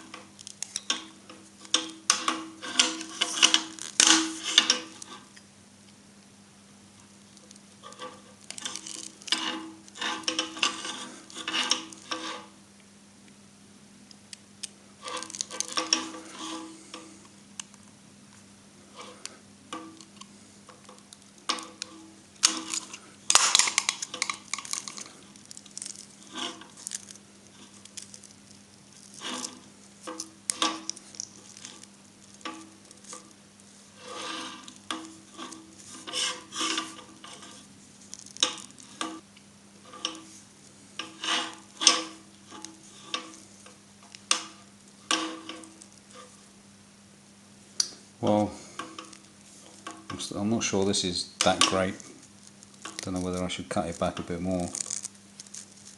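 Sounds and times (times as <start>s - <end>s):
scraping and metallic rustling: 0.0s - 5.4s, 7.4s - 12.6s, 15.0s - 17.2s, 18.8s - 46.6s, 47.7s - 55.9s
steady low hum: 0.0s - 55.9s.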